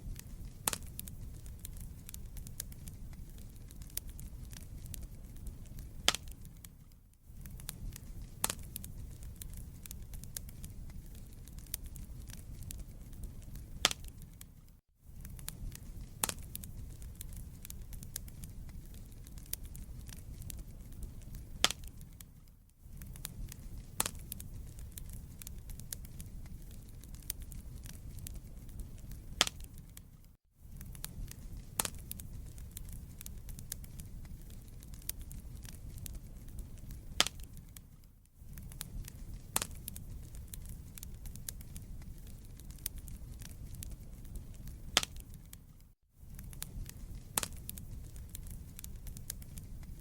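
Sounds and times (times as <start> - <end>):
burning logs crackling and popping: 0.0 - 50.0
low rumble of fire flames: 0.0 - 50.0.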